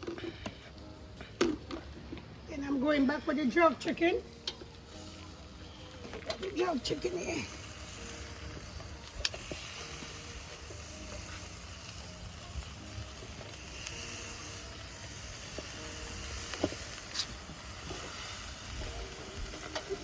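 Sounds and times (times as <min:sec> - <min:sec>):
chicken sizzling on a grill: 0:02.6 - 0:20.0.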